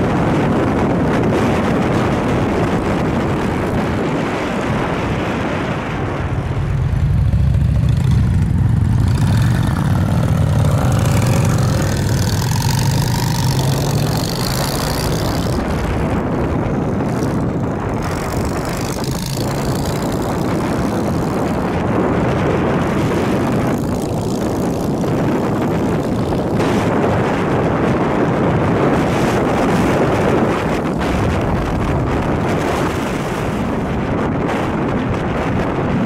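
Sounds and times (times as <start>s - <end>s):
motorcycle engine: 0.0s - 34.8s
wind rushing over microphone: 0.0s - 36.0s.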